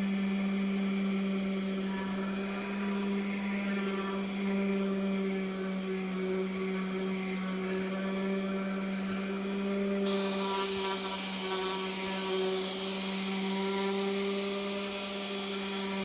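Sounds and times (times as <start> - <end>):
orbital sander motor hum: 0.0 - 16.0
sanding pad hissing on wood: 1.0 - 16.0.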